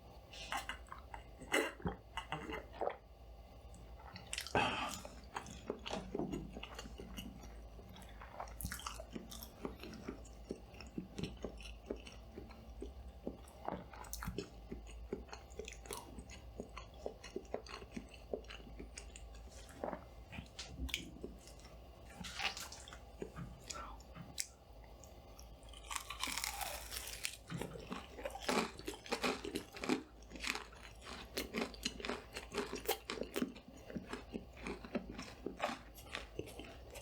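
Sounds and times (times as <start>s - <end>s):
low lighting hum: 0.0s - 37.0s
close chewing and biting food: 4.0s - 37.0s.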